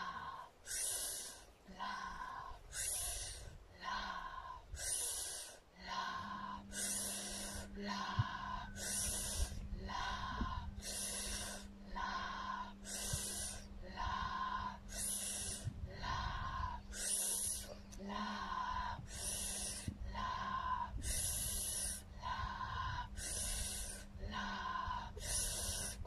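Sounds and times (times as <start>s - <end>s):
forceful breathing through nose: 0.0s - 1.5s, 2.7s - 17.9s, 18.5s - 26.0s
faint low hum: 0.0s - 26.0s.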